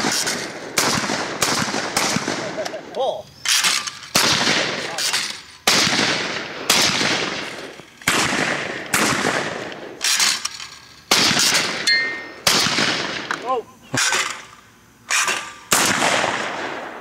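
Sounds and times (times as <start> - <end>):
shotgun shots echoing: 0.0 - 2.8, 3.4 - 10.4, 11.1 - 14.5, 15.1 - 17.0.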